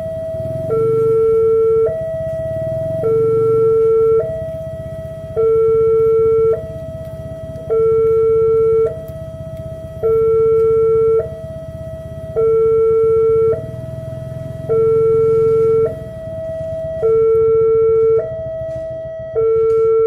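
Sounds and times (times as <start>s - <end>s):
level crossing two-tone alarm: 0.0s - 20.0s.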